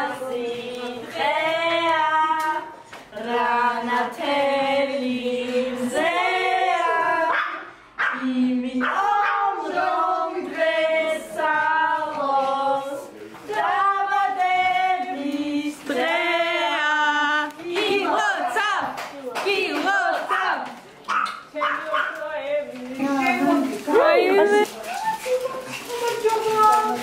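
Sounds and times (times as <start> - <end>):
women singing together: 0.0 - 20.7, 21.6 - 24.7.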